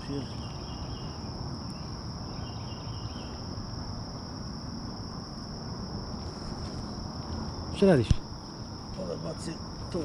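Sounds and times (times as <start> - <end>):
crickets droning: 0.0 - 10.0.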